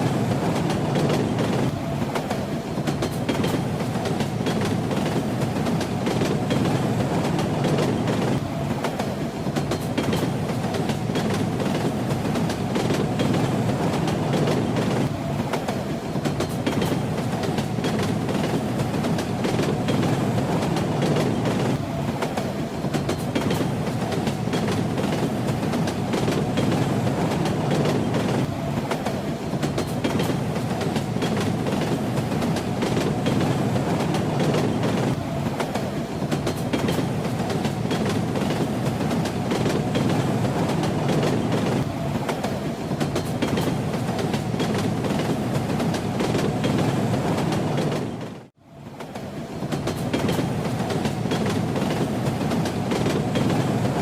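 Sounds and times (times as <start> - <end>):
moving train rumble: 0.0 - 54.0.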